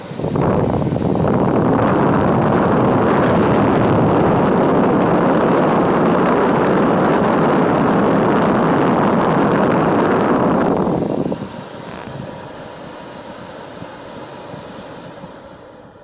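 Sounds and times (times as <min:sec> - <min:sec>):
car blower fan rushing air: 0:00.0 - 0:16.0.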